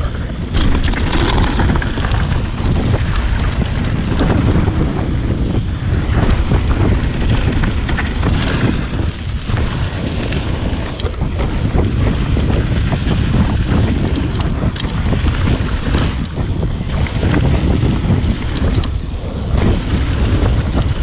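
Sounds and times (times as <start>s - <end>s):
bike clicks and rattles: 0.0s - 21.0s
tyres rolling over loose gravel: 0.0s - 21.0s
wind buffeting microphone: 0.0s - 21.0s.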